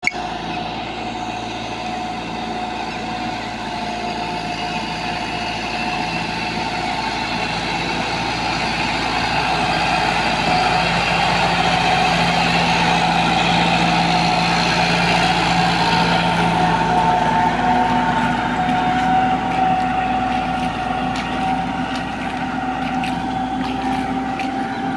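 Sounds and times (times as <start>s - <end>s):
combine harvester engine running: 0.0s - 24.9s.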